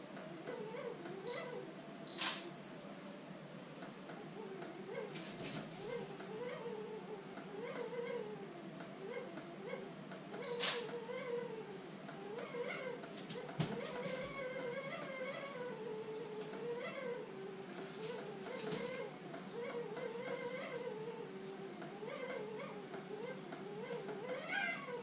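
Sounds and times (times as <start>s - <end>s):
wavering wailing cries: 0.0s - 25.0s.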